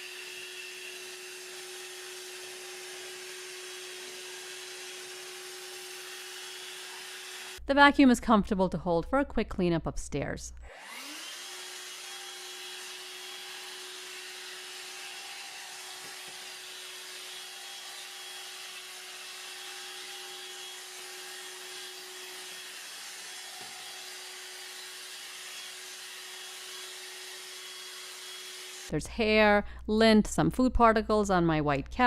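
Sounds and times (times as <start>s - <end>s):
handheld vacuum running: 0.0s - 7.6s, 10.7s - 28.9s.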